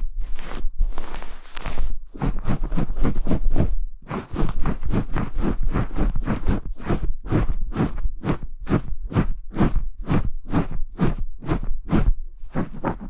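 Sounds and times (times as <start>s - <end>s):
brush scrubbing microphone: 0.0s - 13.0s.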